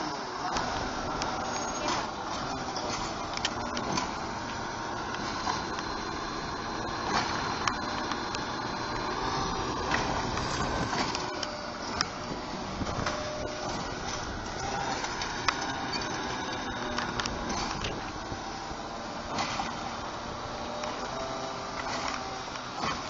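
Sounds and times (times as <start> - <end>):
garbage truck engine running: 0.0 - 23.0
hydraulics working: 0.0 - 23.0.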